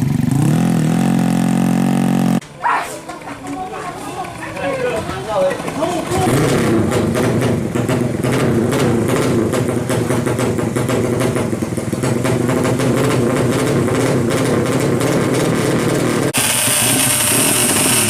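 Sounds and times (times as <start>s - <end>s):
two-stroke motorcycle engine running: 0.0s - 2.4s, 4.2s - 18.0s.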